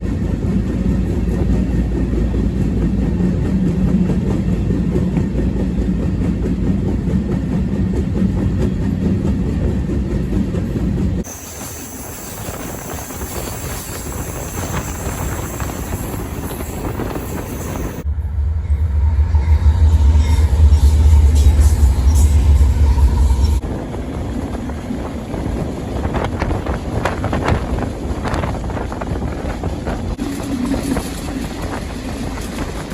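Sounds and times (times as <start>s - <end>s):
freight train rumbling: 0.0s - 32.9s
train clanks and rattles: 0.0s - 32.9s.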